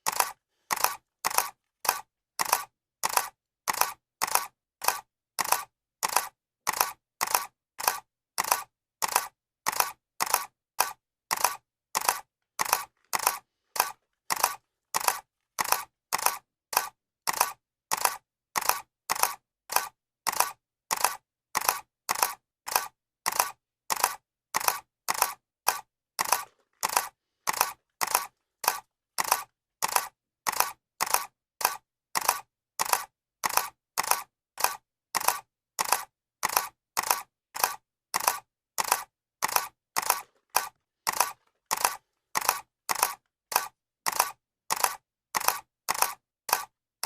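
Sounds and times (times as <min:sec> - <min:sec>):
camera shutter clicking: 0:00.0 - 0:46.7.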